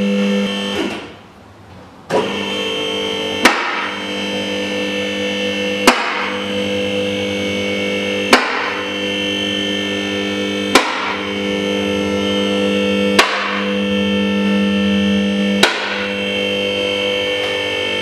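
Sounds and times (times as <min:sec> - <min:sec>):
car lift motor humming: 0:00.0 - 0:18.0.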